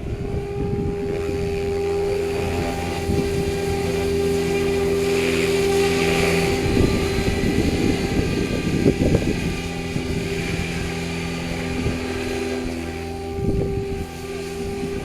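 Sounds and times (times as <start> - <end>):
helicopter motor and rotor humming: 0.0 - 15.0
wind buffeting microphone: 0.0 - 15.0.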